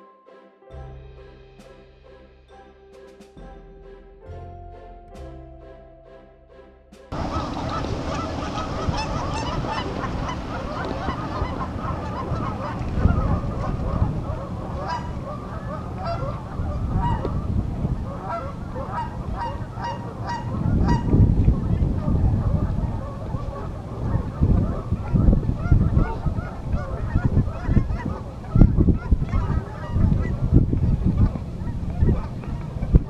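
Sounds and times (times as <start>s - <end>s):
low rumble: 0.7s - 33.0s
geese honking: 6.1s - 33.0s.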